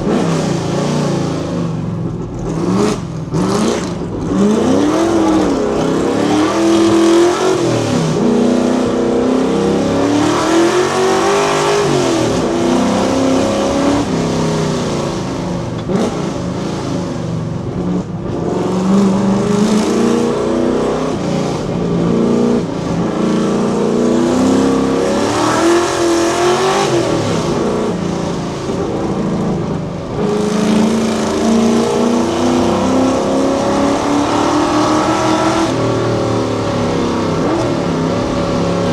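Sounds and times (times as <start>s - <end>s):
car exhaust accelerating hard: 0.0s - 38.9s.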